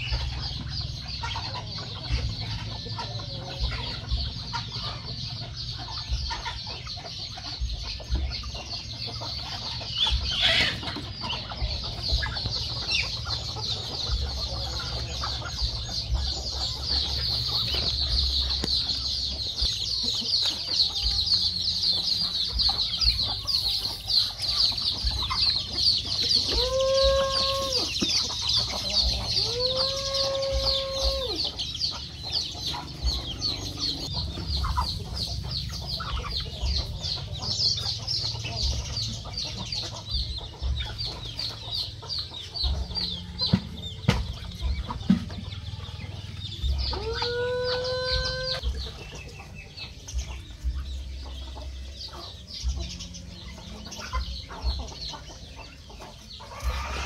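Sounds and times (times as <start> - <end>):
chickens clucking: 0.0 - 57.0
high chirping: 0.0 - 57.0.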